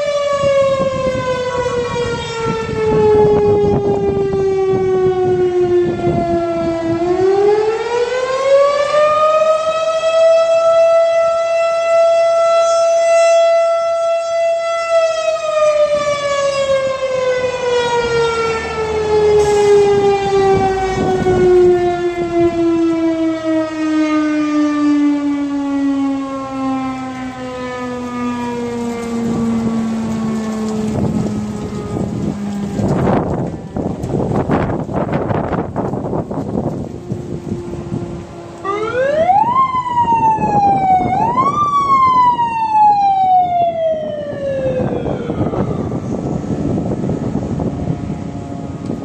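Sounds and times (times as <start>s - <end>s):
fire siren wailing: 0.0s - 49.0s.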